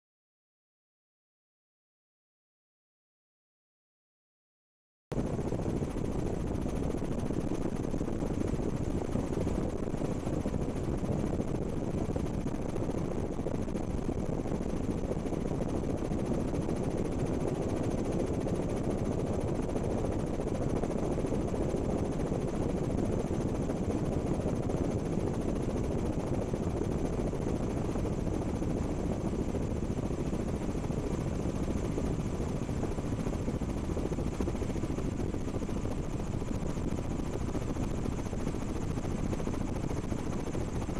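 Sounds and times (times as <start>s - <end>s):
helicopter rotor and engine: 5.1s - 40.9s.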